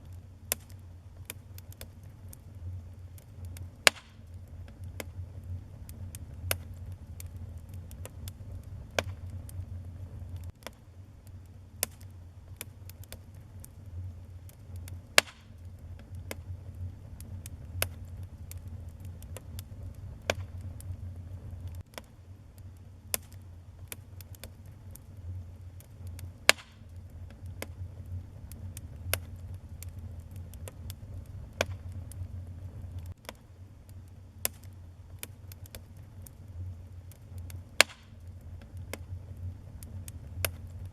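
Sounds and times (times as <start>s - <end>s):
low steady rumble: 0.0s - 40.9s
wood fire crackling and popping: 0.0s - 40.9s.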